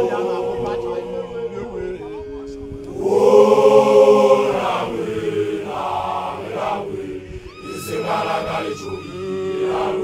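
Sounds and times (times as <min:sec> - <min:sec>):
high wavering rising call: 0:00.0 - 0:10.0
voices chanting together: 0:00.0 - 0:10.0.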